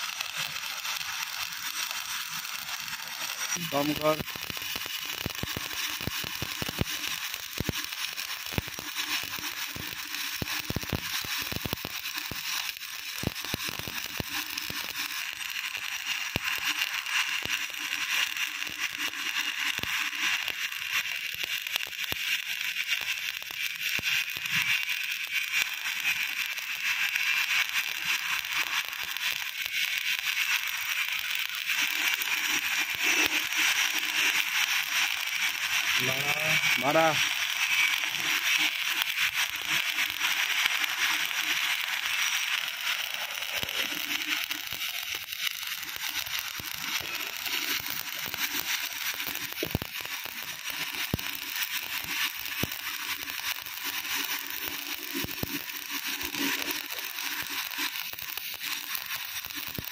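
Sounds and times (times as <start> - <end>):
welding arc crackling: 0.0 - 59.9.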